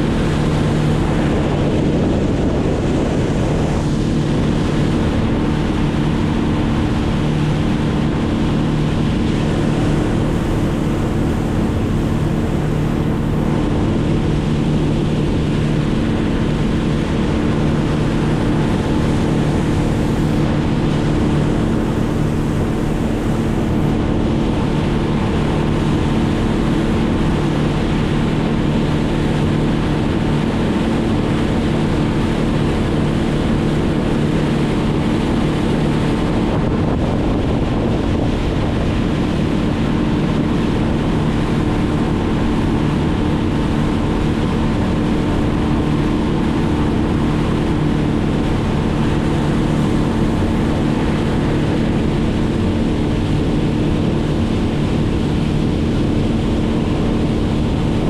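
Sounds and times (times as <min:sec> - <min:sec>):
engine running: 0:00.0 - 0:58.0
wind noise on microphone: 0:00.0 - 0:58.0.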